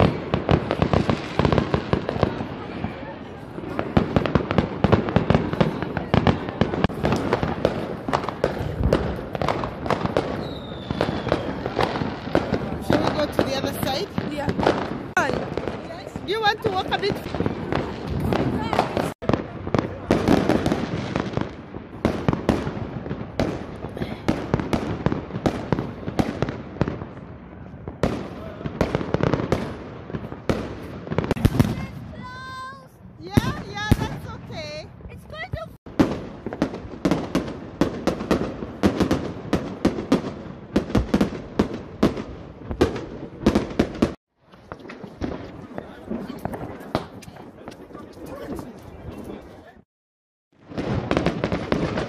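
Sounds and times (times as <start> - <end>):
fireworks and firecrackers banging: 0.0 - 49.9, 50.5 - 52.0.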